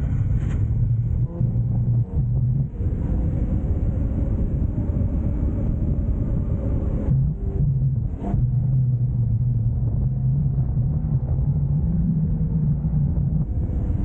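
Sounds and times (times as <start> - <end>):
car engine rumbling while driving: 0.0 - 14.0
steady rushing noise: 0.0 - 14.0.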